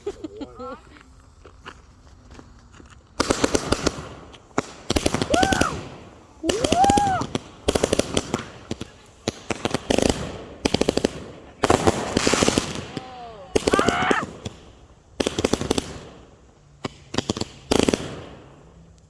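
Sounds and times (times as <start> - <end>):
fireworks bangs and crackles: 2.2 - 19.0.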